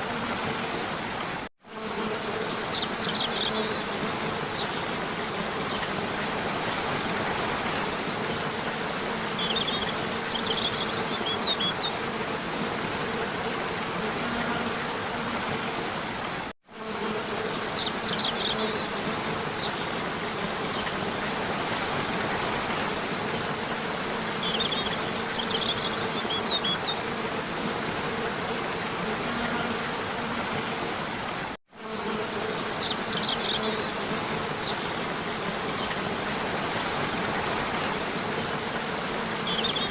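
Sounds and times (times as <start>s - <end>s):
insect-like buzzing drone: 0.0s - 39.9s.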